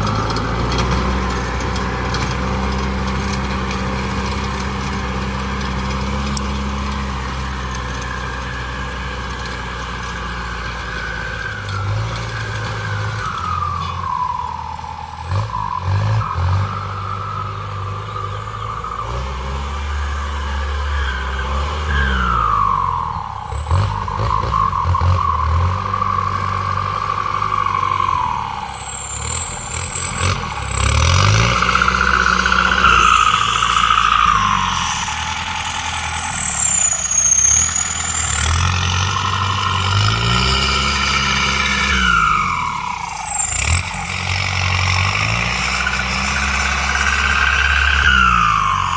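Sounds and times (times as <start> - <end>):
engine whine: 0.0 - 48.9
tractor engine running: 0.0 - 48.9.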